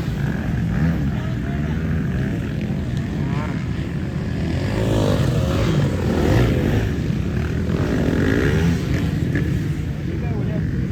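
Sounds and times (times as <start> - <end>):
low rumble of engines: 0.0 - 10.9
motorcycle engines revving: 0.0 - 10.9.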